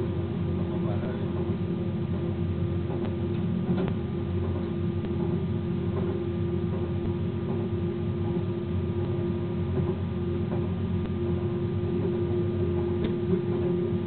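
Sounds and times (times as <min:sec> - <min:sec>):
locomotive drone: 0:00.0 - 0:14.0.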